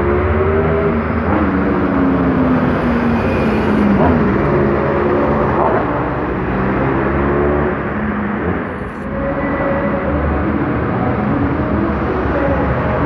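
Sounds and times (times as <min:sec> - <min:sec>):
bus engine passing: 0:00.0 - 0:13.0
road traffic: 0:00.0 - 0:13.0.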